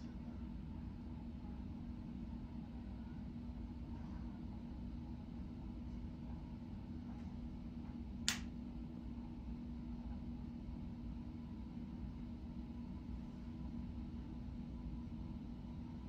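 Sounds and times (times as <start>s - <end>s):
low rumble and hum of ship: 0.0s - 16.0s.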